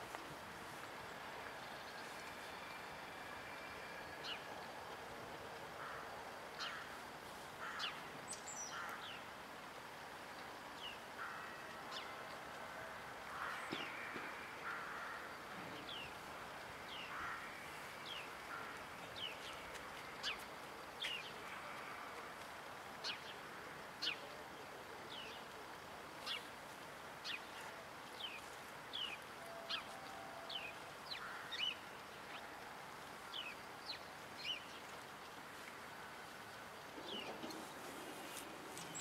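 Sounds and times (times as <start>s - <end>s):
faint background noise: 0.0s - 39.0s.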